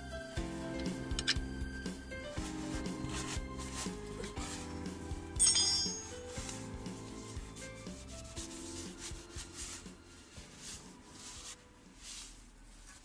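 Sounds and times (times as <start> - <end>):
quiet background music: 0.0 - 13.0
cloth rag rubbing: 2.1 - 13.0.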